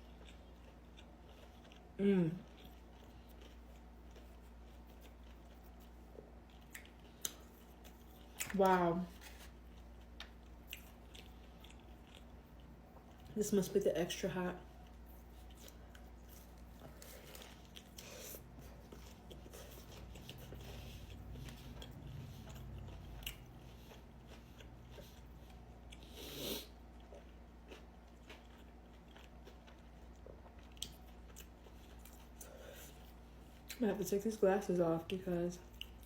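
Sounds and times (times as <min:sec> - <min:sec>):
chewing crispy food: 0:00.0 - 0:36.0.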